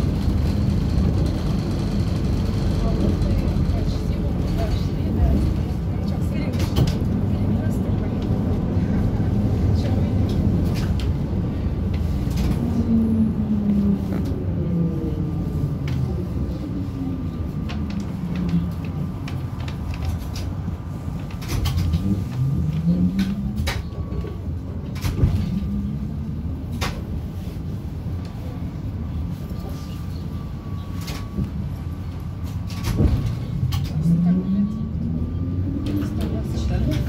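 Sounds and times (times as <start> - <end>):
steady vehicle rumble: 0.0 - 37.0
trolleybus motor whine: 0.0 - 37.0.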